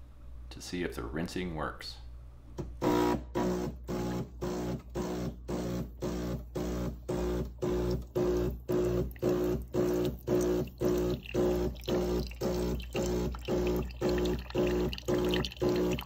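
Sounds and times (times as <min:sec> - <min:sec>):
pump buzzing in pulses: 0:02.8 - 0:16.0.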